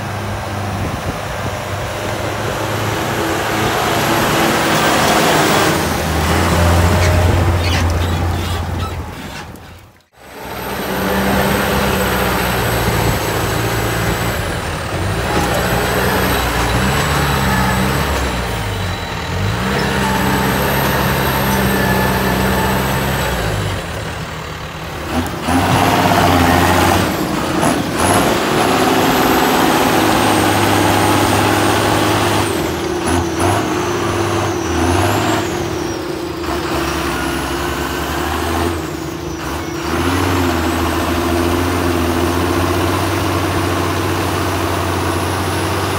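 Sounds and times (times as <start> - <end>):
tractor diesel engine working hard: 0.0 - 45.9.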